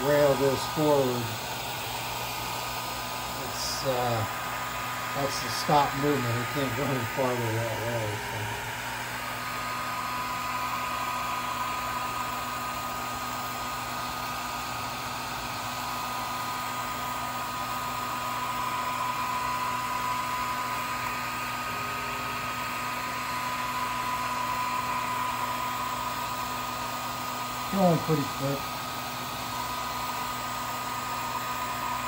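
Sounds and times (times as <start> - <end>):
laser engraver whirring hiss: 0.0 - 32.0.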